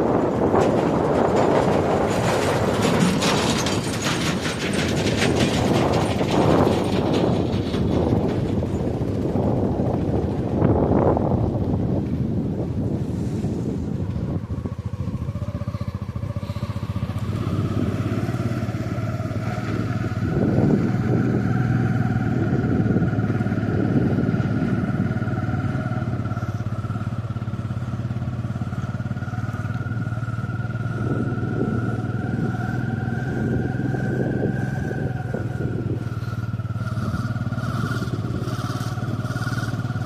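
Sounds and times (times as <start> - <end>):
engine humming and whining: 0.0 - 40.0.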